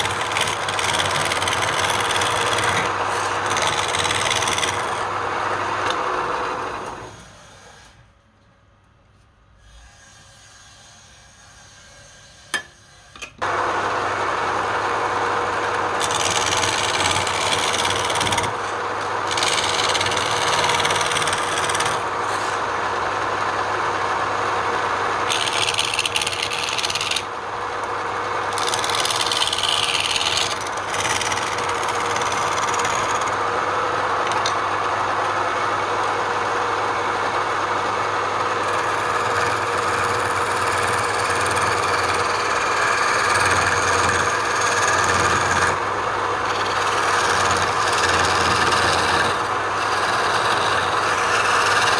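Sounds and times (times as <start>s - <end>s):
wood lathe motor hum: 0.0s - 7.8s, 13.4s - 51.9s
tool scraping spinning wood: 0.0s - 8.0s, 14.2s - 24.0s, 24.6s - 35.1s, 36.2s - 51.9s.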